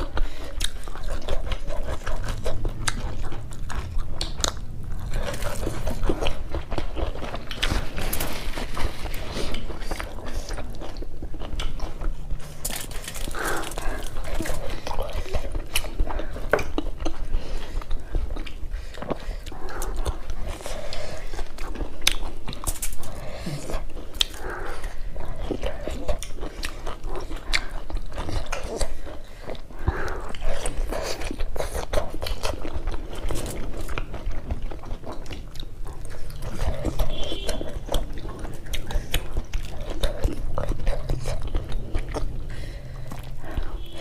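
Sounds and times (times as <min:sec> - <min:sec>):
chewing and biting: 0:00.0 - 0:44.0.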